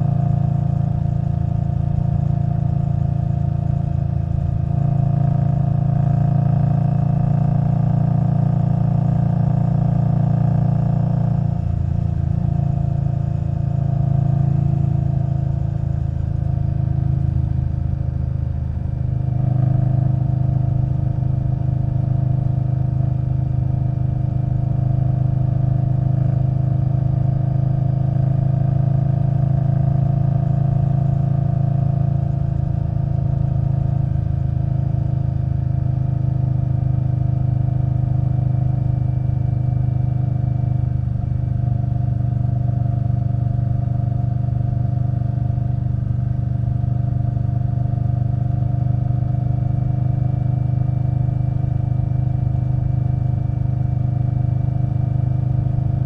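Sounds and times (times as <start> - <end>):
motorcycle engine while riding: 0.0 - 56.0.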